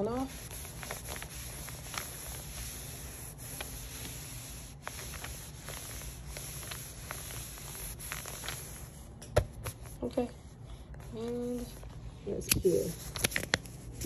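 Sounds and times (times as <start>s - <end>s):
cloth rubbing on film: 0.0s - 14.0s.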